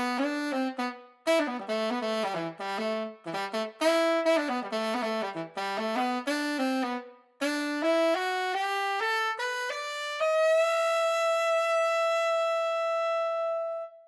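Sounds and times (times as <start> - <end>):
tenor saxophone playing: 0.0 - 14.0.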